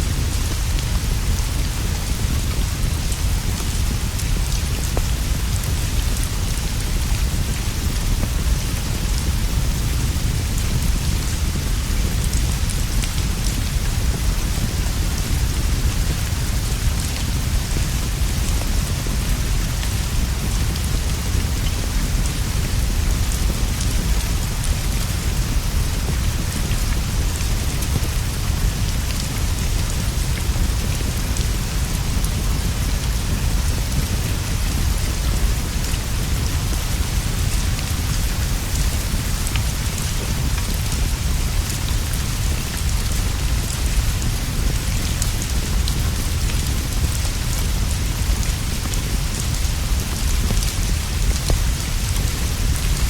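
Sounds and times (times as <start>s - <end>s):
steady rainfall: 0.0s - 53.0s.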